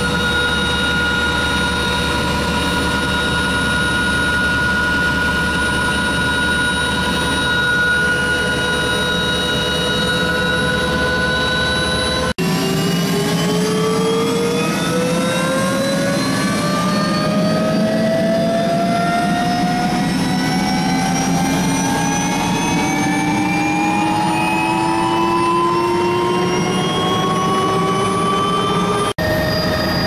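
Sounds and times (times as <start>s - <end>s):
helicopter engine whine rising: 0.0s - 30.0s.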